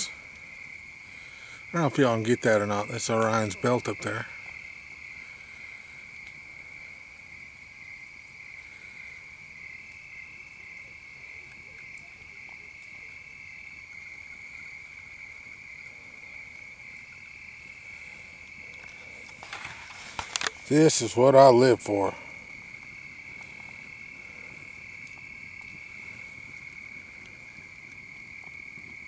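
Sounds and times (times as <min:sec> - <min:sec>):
shrill night chorus trilling: 0:00.0 - 0:29.0.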